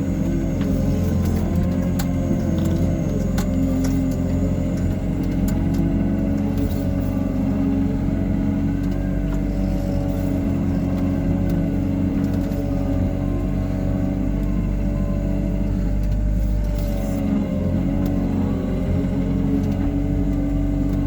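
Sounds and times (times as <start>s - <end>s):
excavator diesel engine running: 0.0s - 21.0s
wavering whine: 0.0s - 21.0s.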